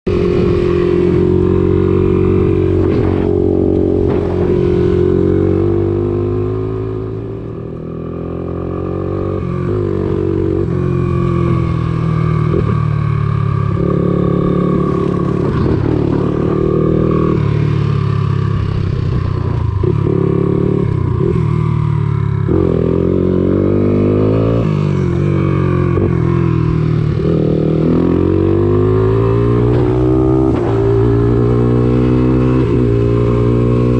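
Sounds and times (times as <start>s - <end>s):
engine revving: 0.1s - 33.9s.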